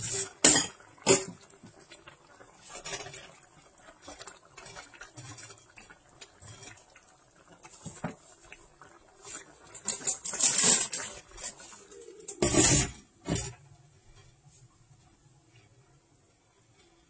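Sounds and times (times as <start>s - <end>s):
sauce simmering in a wok: 0.0s - 17.0s.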